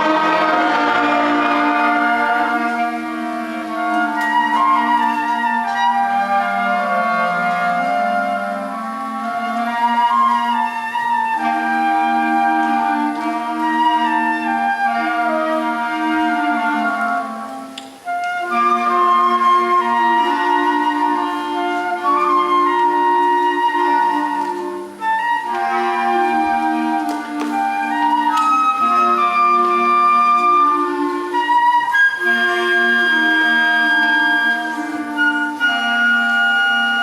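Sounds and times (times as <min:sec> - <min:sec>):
concert band playing slow piece: 0:00.0 - 0:37.0.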